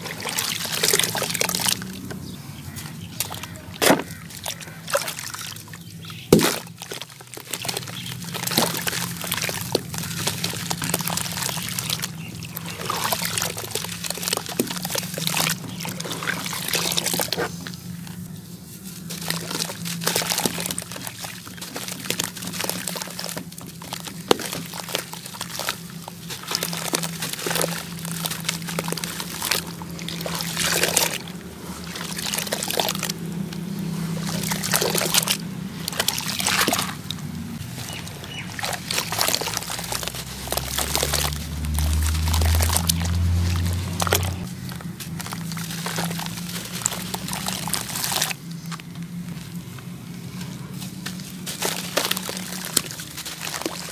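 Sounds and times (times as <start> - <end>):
hands crumbling wet cement: 0.0 - 17.6, 19.0 - 48.9, 51.0 - 53.9
bits splashing into water: 0.0 - 18.2, 19.0 - 49.2, 51.0 - 53.9
water sloshing: 0.0 - 53.9.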